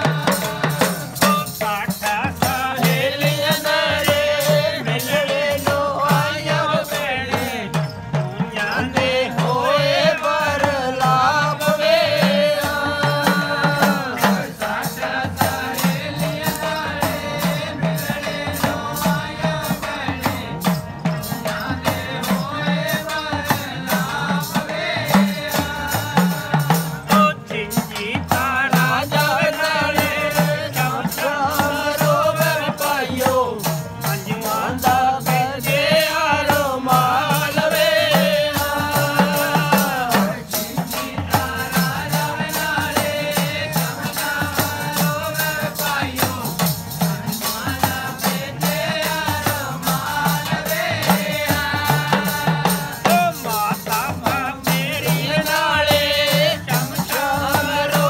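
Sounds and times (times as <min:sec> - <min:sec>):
hand percussion beat: 0:00.0 - 0:58.0
men singing folk song: 0:00.0 - 0:58.0.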